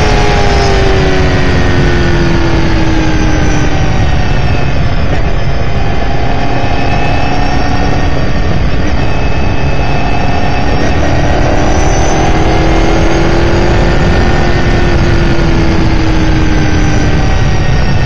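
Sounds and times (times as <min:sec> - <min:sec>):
race car engine pulling: 0:00.0 - 0:18.0
thin high whine: 0:00.0 - 0:18.0
wind and road noise: 0:00.0 - 0:18.0.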